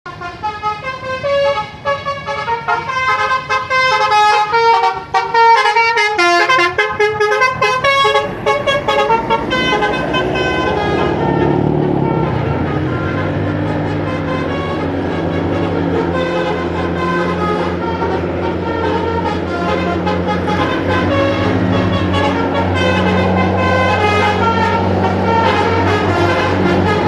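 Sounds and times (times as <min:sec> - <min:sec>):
musical air horn playing tune: 0:00.1 - 0:27.0.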